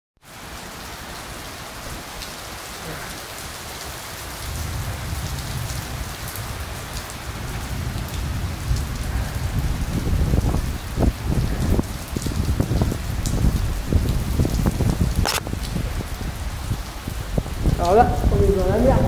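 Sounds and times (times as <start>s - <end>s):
heavy rain on paving: 0.2s - 19.0s.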